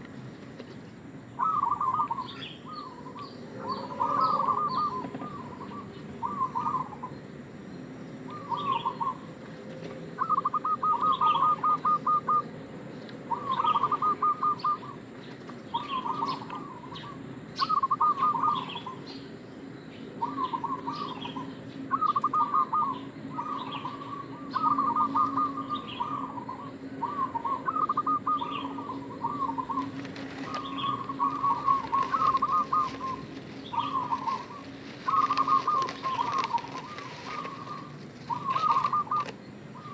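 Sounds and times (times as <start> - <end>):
dove trilled cooing: 1.4 - 7.3, 8.2 - 19.3, 20.1 - 39.9.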